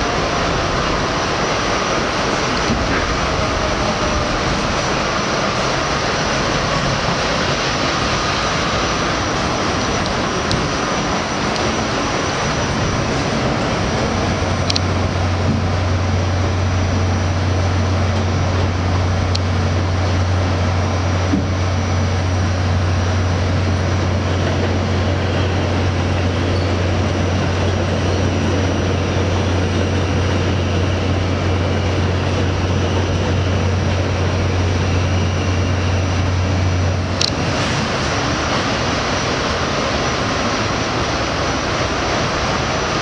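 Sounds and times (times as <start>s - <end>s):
subway car rumbling: 0.0s - 43.0s.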